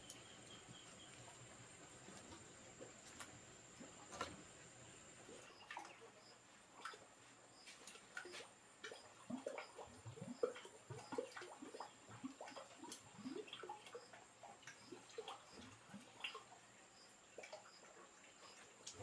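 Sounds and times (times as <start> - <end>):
faint water splashes and drips: 0.0 - 19.0.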